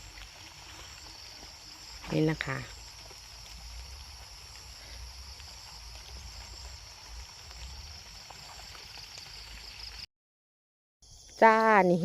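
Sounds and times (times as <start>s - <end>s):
high insect chorus: 0.0s - 10.1s, 11.0s - 12.0s.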